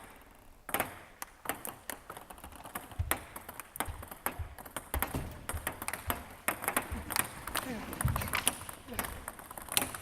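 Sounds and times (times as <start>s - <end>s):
table tennis ball clicking: 0.0s - 10.0s.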